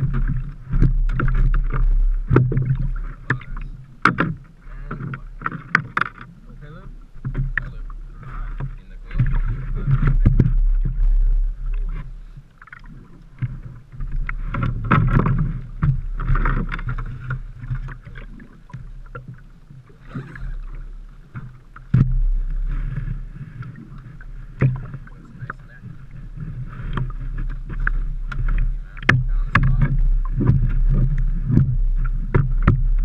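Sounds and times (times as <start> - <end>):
gear knocking against hull: 0.0 - 12.1, 13.4 - 19.4, 20.4 - 23.8, 24.5 - 26.0, 26.6 - 33.0
water movement: 0.0 - 33.0
wind rumble on microphone: 0.0 - 33.0.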